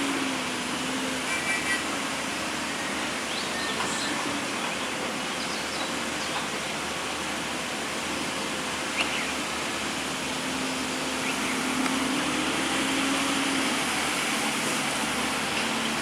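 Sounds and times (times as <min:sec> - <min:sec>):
excavator engine humming: 0:00.0 - 0:16.0.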